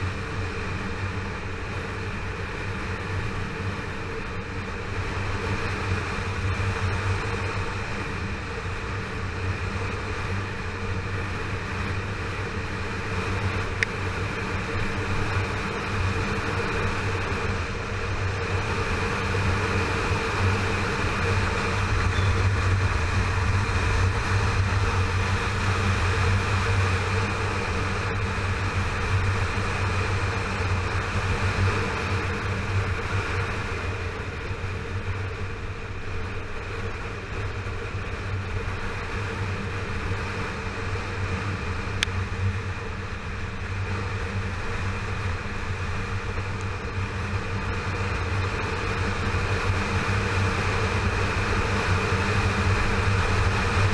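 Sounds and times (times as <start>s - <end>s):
motorcycle engine running: 0.0s - 53.9s
road noise: 0.0s - 53.9s
wind noise: 0.0s - 53.9s.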